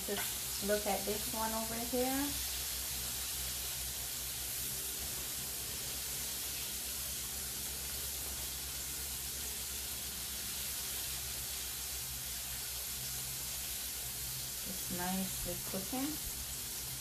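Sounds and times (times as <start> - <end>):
low steady hum: 0.0 - 17.0
shrimp sizzling in oil: 0.0 - 17.0.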